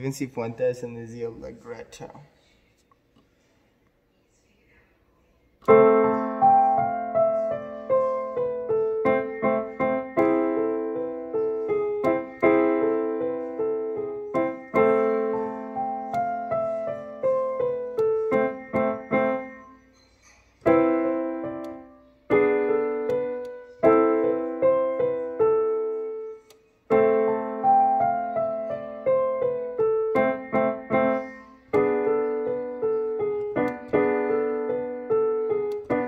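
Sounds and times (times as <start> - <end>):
digital piano melody: 5.6 - 36.0.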